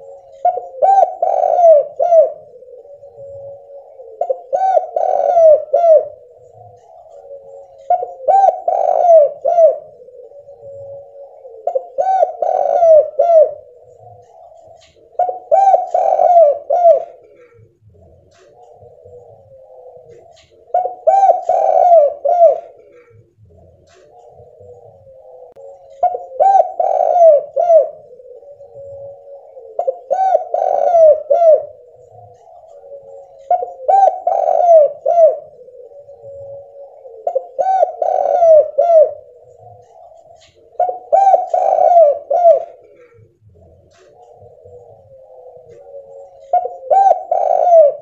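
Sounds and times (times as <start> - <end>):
dove cooing: 0.0 - 48.0.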